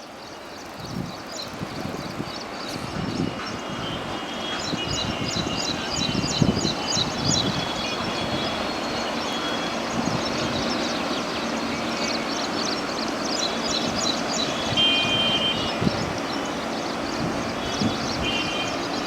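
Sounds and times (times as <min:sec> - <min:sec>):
passenger train rumbling past: 0:00.0 - 0:19.0.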